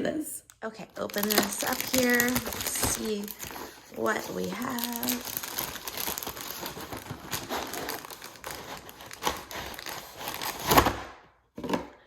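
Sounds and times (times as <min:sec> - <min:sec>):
packaging crinkling and rustling: 0:00.9 - 0:11.1.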